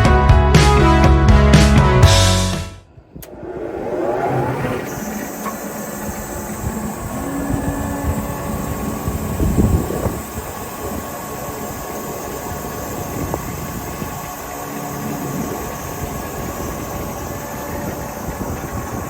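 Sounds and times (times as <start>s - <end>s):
spindle moulder motor running: 3.2s - 19.0s.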